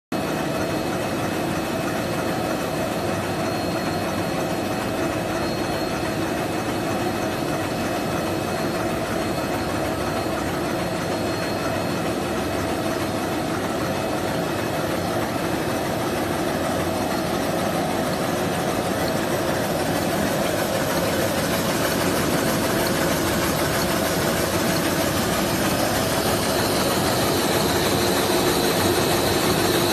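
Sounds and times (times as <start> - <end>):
faint machine whines: 0.2 - 29.9
paper machine running: 0.2 - 29.9.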